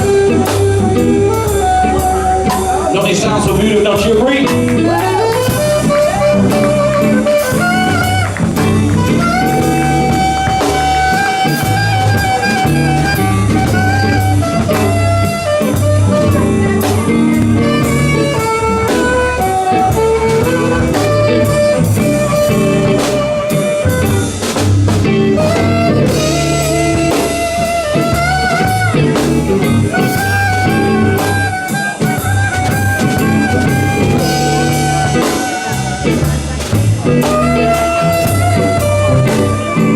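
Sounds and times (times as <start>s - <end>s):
drum kit: 0.0s - 39.9s
lead melody with bending notes: 0.0s - 39.9s
steady low bass: 0.0s - 39.9s.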